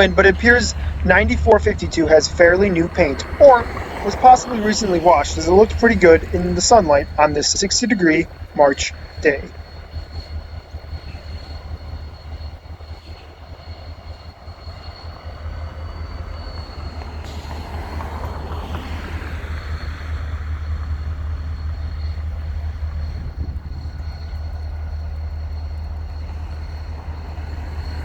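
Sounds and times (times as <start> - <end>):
diesel locomotive rumble: 0.0 - 28.0.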